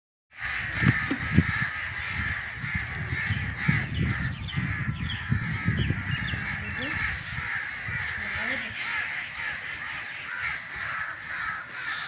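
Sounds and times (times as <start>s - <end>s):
crows cawing: 0.3s - 12.0s
birds chirping: 0.4s - 12.0s.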